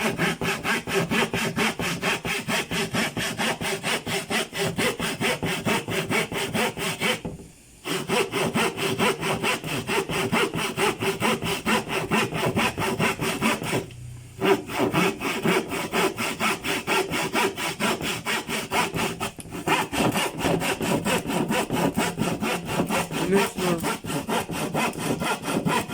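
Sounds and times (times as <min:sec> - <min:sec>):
handsaw cutting: 0:00.0 - 0:25.9.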